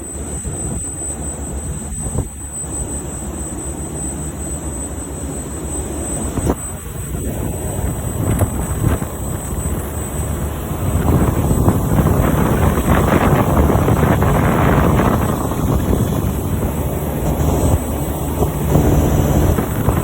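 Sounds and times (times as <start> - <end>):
heat pump fan noise: 0.0 - 20.0
low hum: 0.0 - 20.0.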